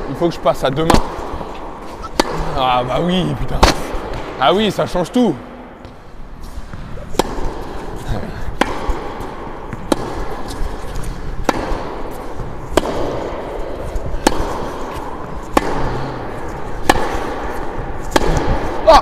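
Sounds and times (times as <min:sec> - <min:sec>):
tennis ball bouncing on court: 0:00.6 - 0:02.5, 0:03.6 - 0:04.4, 0:05.8 - 0:18.9
tennis ball struck by racket: 0:00.7 - 0:02.5, 0:03.4 - 0:04.4, 0:05.8 - 0:19.0.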